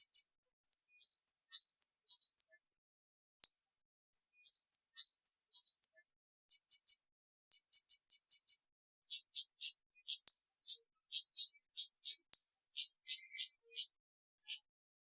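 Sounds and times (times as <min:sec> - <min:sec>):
bird chirping calls: 0:00.0 - 0:02.6, 0:03.4 - 0:14.7.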